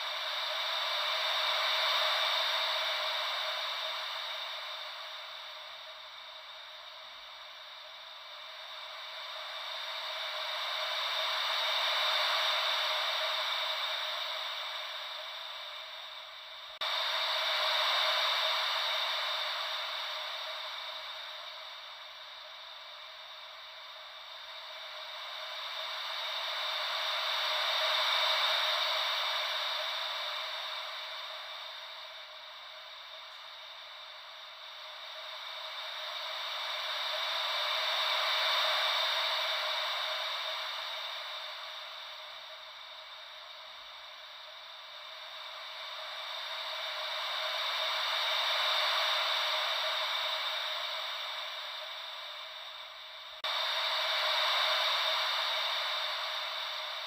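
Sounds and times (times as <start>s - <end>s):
ocean wave white noise hiss: 0.0s - 57.0s.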